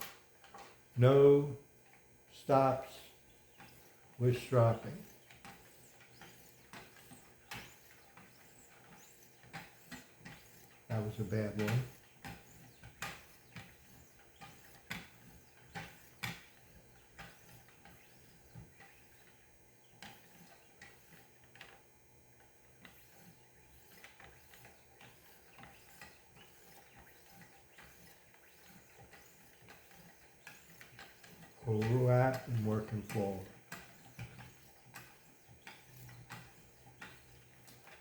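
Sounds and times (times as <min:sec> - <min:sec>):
faint clicks and taps: 0:04.8 - 0:21.8, 0:22.4 - 0:38.0.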